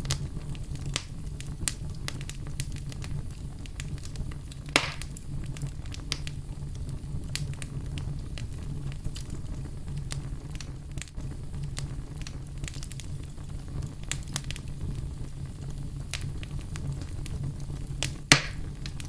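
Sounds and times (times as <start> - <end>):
fire popping and snapping: 0.0 - 19.0
low rumble of flames: 0.0 - 19.0
wood fire crackling: 0.0 - 19.0.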